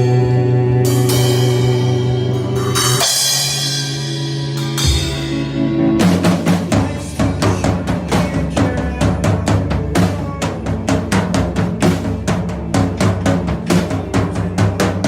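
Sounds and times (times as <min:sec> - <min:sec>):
rock song playing: 0:00.0 - 0:15.0
bass drum and snare beat: 0:01.4 - 0:15.0.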